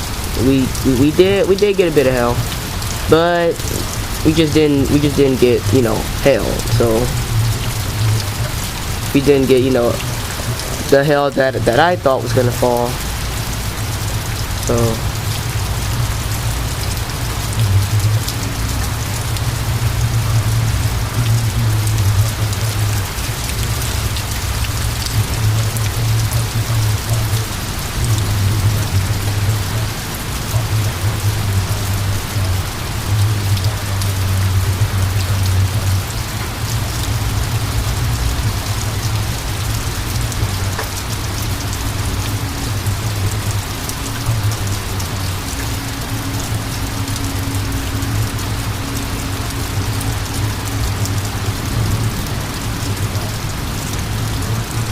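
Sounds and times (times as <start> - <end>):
rain falling: 0.0 - 54.9.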